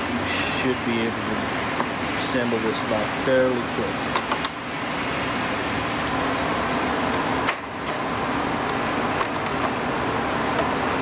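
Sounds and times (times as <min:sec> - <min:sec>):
fan rushing air: 0:00.0 - 0:11.0.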